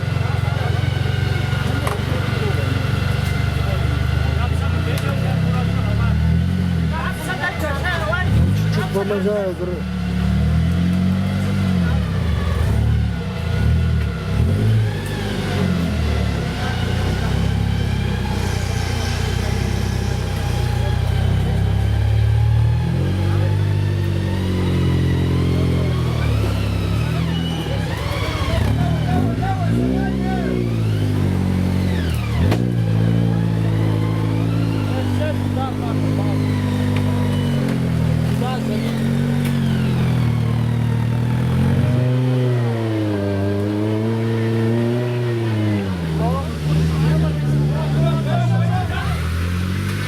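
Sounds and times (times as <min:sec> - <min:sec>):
vehicle engine revving under load: 0:00.0 - 0:50.0.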